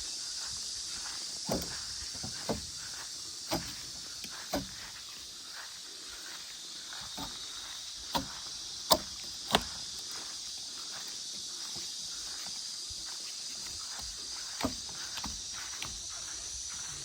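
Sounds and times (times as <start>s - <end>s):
steady high-pitched hiss: 0.0s - 17.0s.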